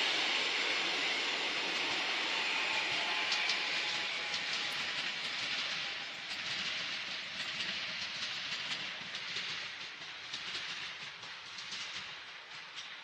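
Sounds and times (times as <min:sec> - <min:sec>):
steel wheels hissing on rail: 0:00.0 - 0:13.0.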